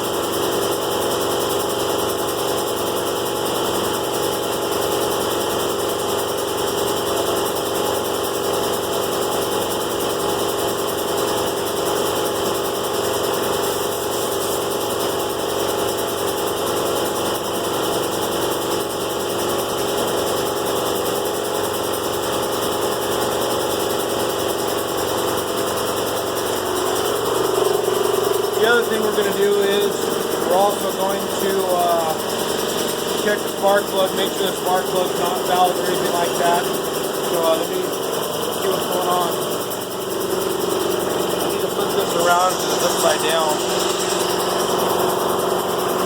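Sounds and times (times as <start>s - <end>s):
air compressor running: 0.0s - 46.0s.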